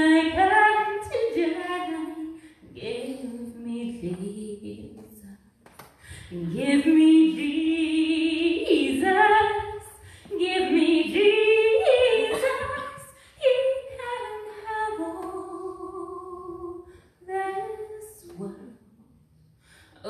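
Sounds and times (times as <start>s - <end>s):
woman singing unaccompanied: 0.0s - 5.4s, 6.3s - 18.8s.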